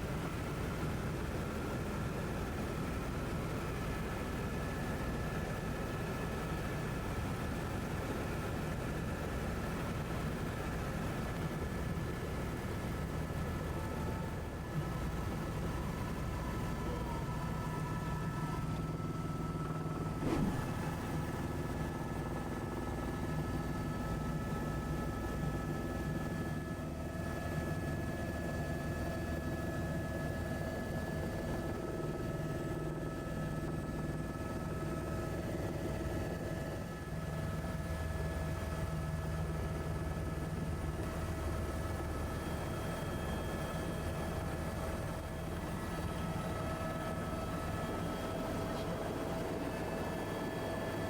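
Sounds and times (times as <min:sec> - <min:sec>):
helicopter engine and rotor drone: 0:00.0 - 0:51.0.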